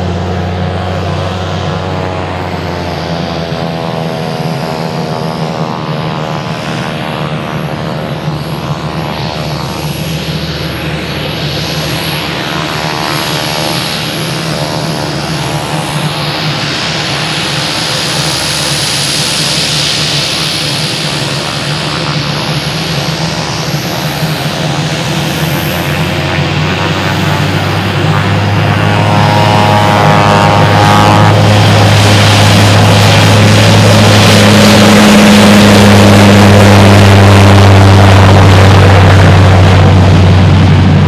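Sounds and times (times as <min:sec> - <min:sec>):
high turbine whine: 0:00.0 - 0:41.0
propeller hum: 0:00.0 - 0:41.0.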